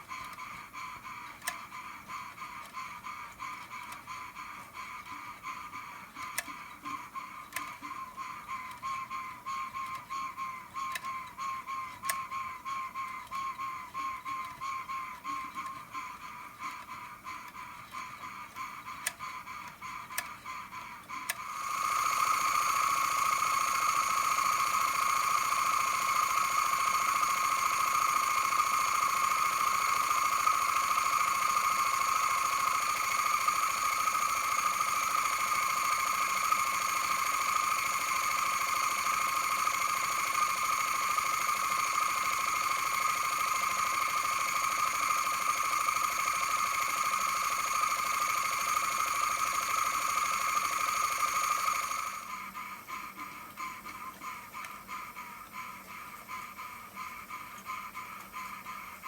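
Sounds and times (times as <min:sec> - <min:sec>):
toy steam engine whining: 0:00.0 - 0:59.0.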